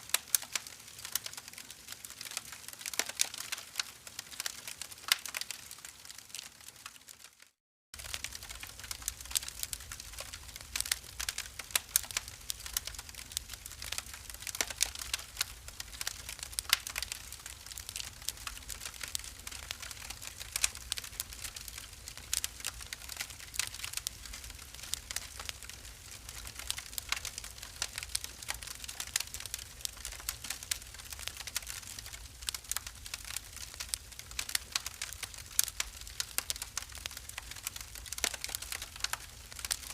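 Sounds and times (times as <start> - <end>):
wood fire crackling and popping: 0.0 - 7.4, 8.0 - 39.9.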